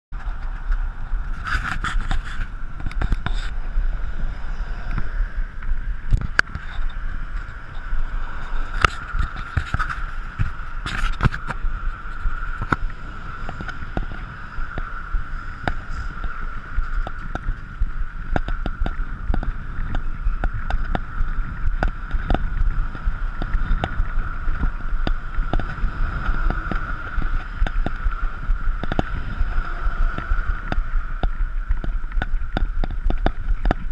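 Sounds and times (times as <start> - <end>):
wind on microphone: 0.1 - 33.9
bicycle clicks and rattles: 0.2 - 3.9, 4.8 - 33.9
bicycle wheels whirring: 0.2 - 33.9.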